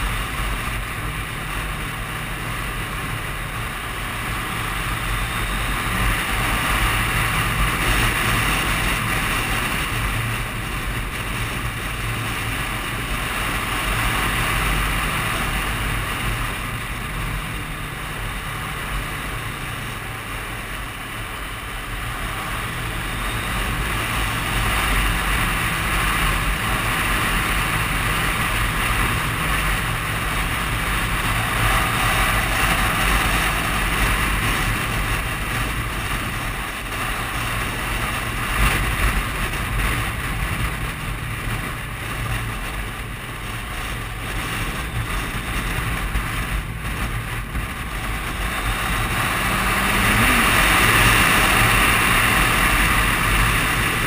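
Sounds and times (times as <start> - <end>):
motorcycle engine running: 0.0 - 54.0
wind rushing on helmet: 0.0 - 54.0.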